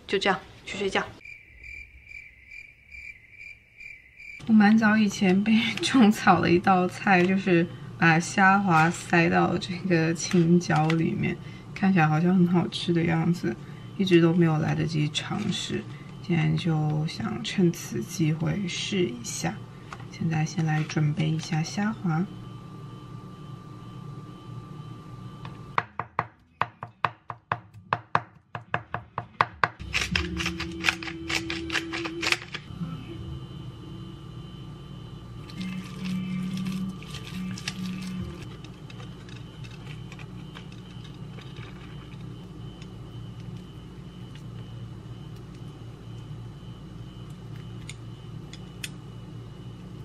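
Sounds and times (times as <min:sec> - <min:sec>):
faint high whine: 0:00.0 - 0:25.8, 0:29.8 - 0:50.0
steady low hum: 0:00.0 - 0:50.0.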